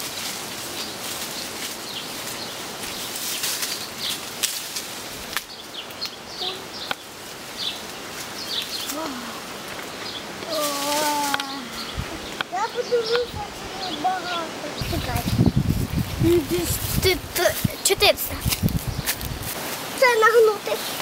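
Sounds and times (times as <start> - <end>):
steady outdoor hiss: 0.0 - 21.0
small birds chirping: 0.6 - 21.0.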